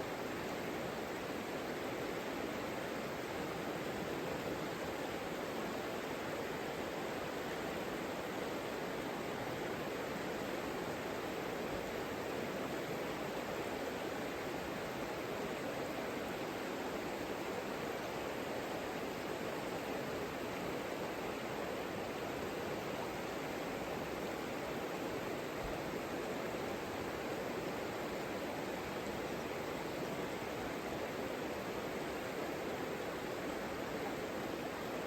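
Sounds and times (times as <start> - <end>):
river flowing: 0.2 - 35.0.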